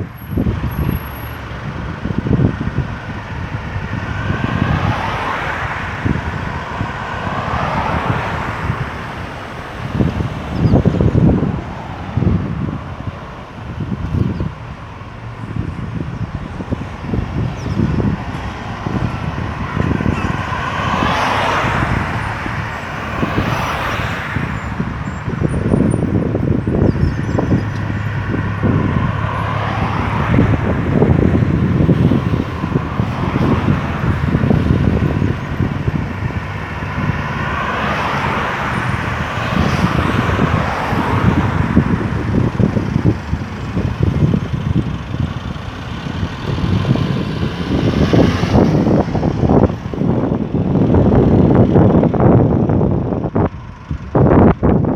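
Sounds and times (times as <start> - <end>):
highway traffic rumble: 0.0 - 54.9
vehicle passing by: 0.4 - 53.8.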